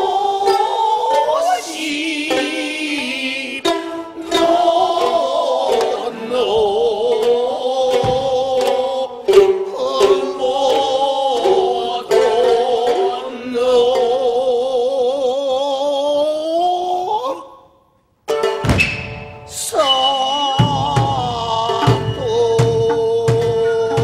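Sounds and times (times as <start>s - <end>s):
plucked shamisen strokes: 0.0s - 15.1s, 18.3s - 24.0s
chanted singing: 0.0s - 17.7s, 19.5s - 24.0s.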